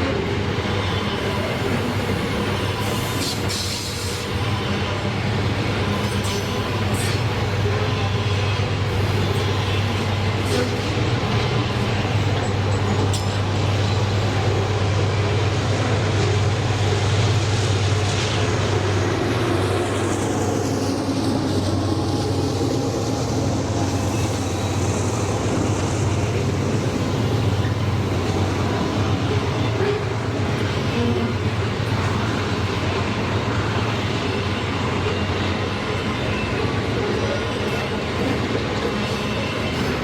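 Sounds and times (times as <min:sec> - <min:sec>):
locomotive engine drone: 0:00.0 - 0:40.0
train wheels rolling: 0:00.0 - 0:40.0.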